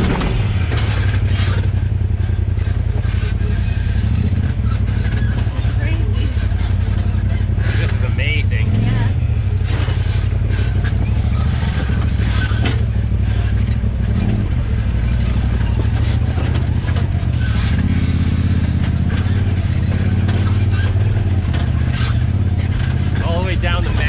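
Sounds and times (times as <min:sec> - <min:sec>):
knocks and rattles: 0:00.0 - 0:24.0
utility vehicle engine running: 0:00.0 - 0:24.0.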